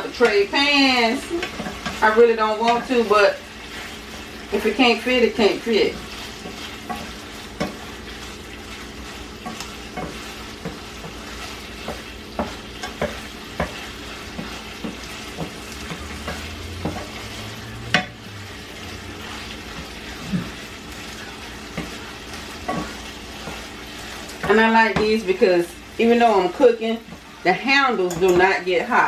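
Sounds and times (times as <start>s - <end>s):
chicken sizzling in a pan: 0.0s - 29.0s
utensil scraping a pan: 0.1s - 29.0s.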